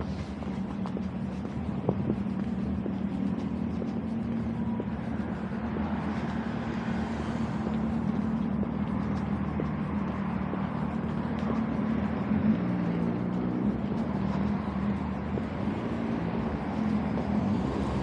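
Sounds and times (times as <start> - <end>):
constant low drone: 0.0 - 18.0
road traffic hum: 0.0 - 18.0.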